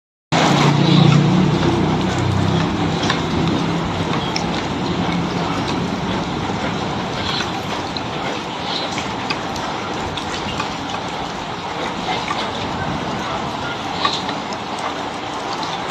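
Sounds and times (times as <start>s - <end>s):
rain falling: 0.4s - 15.9s.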